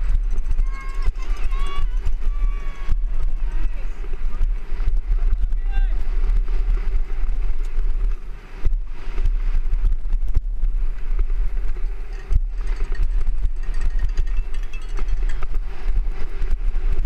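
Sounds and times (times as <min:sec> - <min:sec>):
bike rattling and knocking: 0:00.0 - 0:17.0
tyres on loose dirt: 0:00.0 - 0:17.0
wind buffeting microphone: 0:00.0 - 0:17.0.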